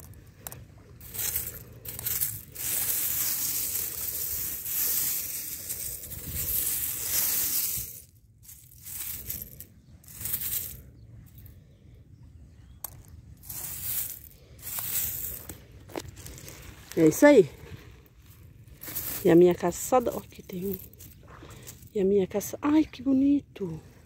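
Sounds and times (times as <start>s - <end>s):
seashells clinking and scraping: 0.0s - 11.7s, 12.6s - 21.9s.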